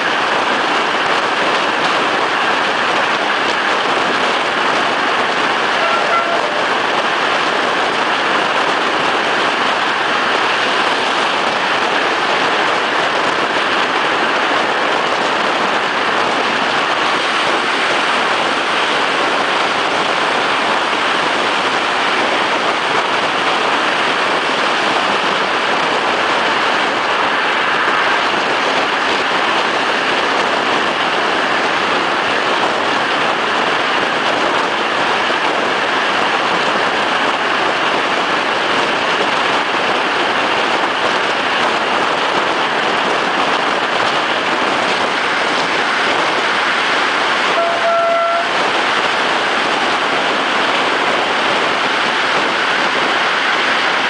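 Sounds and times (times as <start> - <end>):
rush of air: 0.0 - 54.0
train running at speed: 0.0 - 54.0.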